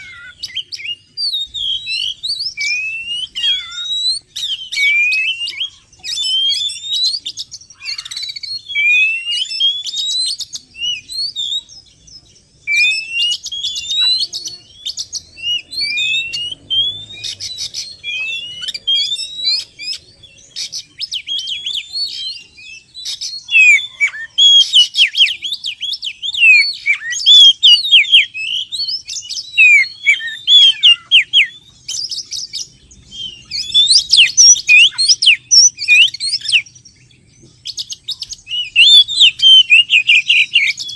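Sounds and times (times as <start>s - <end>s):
bird song with whistles and chattering: 0.0s - 40.9s.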